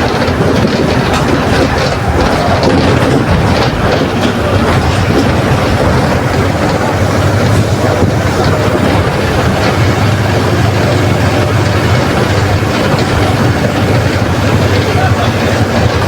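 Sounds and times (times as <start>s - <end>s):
bus body rattling: 0.0s - 16.0s
bus engine droning: 0.0s - 16.0s.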